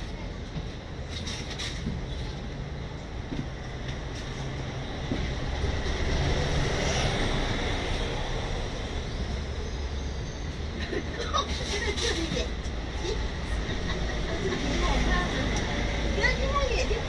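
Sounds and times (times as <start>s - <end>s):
tram rumbling along rails: 0.0s - 17.0s.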